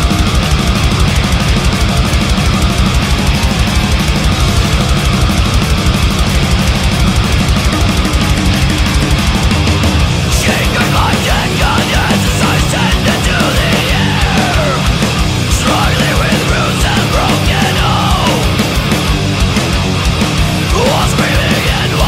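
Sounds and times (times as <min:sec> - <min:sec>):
distorted electric guitars: 0:00.0 - 0:22.0
rapid driving drumming: 0:00.0 - 0:22.0.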